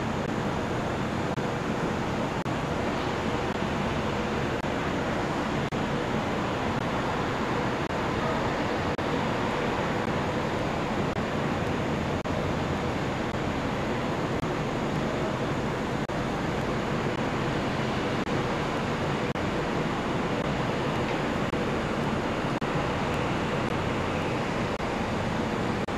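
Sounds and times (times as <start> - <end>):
distant city traffic: 0.0 - 25.9.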